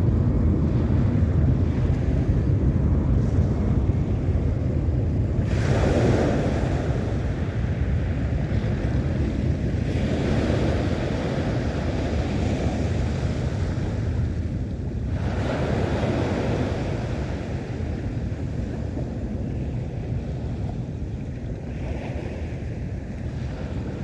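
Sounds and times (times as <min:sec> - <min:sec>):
sea waves washing in: 0:00.0 - 0:24.0
wind rumbling on microphone: 0:00.0 - 0:24.0.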